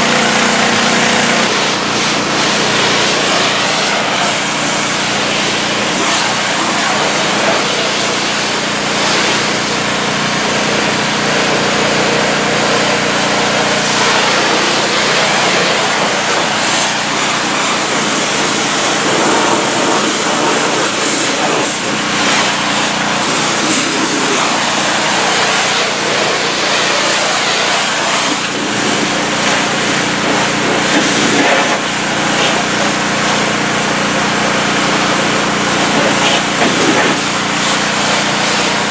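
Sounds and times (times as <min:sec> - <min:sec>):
gas engine running steadily: 0:00.0 - 0:38.9
high-pressure water spray hissing: 0:00.0 - 0:38.9.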